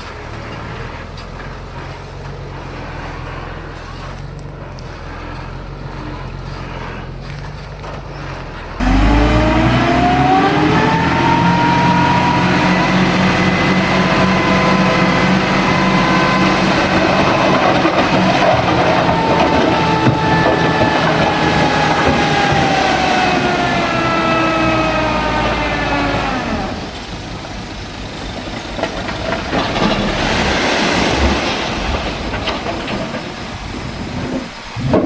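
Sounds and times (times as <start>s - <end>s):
high engine whine: 0.0s - 28.5s
diesel engine revving: 0.0s - 35.0s.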